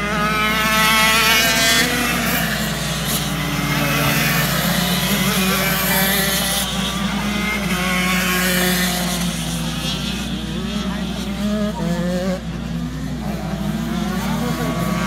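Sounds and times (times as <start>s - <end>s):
kart engines accelerating: 0.0s - 15.0s.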